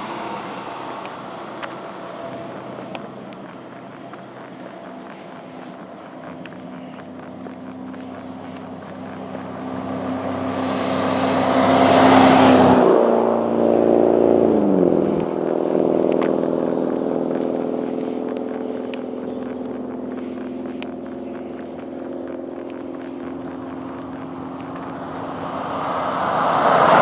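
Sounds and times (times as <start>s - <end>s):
truck passing at speed: 0.0s - 27.0s.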